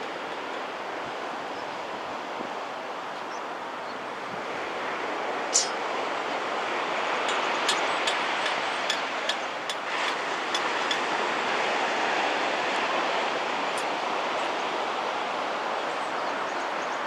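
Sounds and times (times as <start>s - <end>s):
waves washing up a beach: 0.0s - 17.0s.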